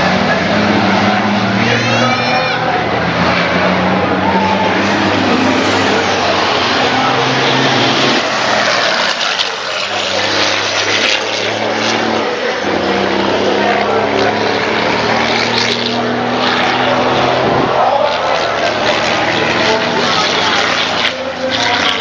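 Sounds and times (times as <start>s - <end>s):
diesel truck engines racing: 0.0s - 22.0s.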